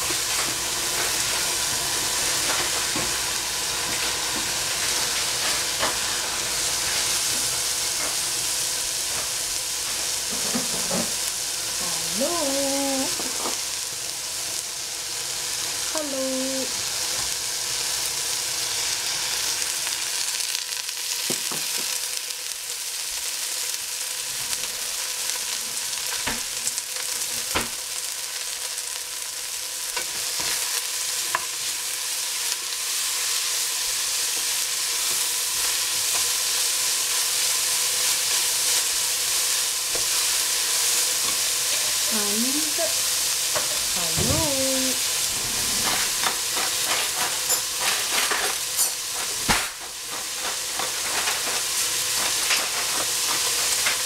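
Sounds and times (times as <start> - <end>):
vegetables sizzling in a pot: 0.0 - 54.0.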